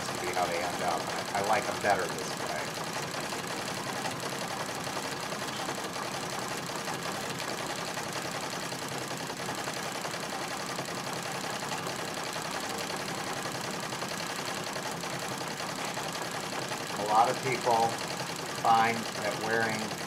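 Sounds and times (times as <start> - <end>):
treadle sewing machine stitching: 0.0 - 20.0.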